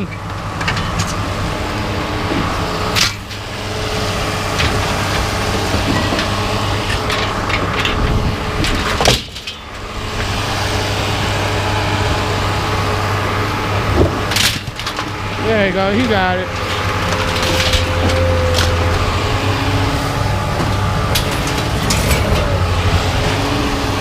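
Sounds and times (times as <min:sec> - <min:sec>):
loud bangs of scrap unloading: 0:00.0 - 0:24.0
vehicle engine idling: 0:00.0 - 0:24.0.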